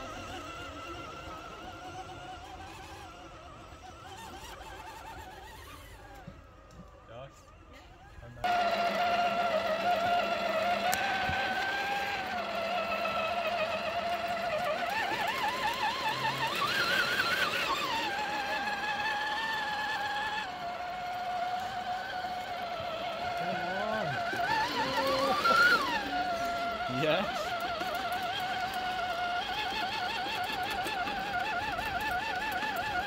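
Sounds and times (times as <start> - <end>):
electric motor whine: 0.0 - 33.0.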